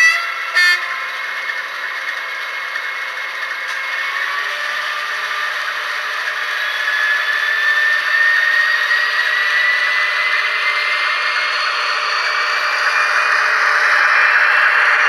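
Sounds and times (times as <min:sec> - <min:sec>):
model locomotive mechanical whine: 0:00.0 - 0:15.0.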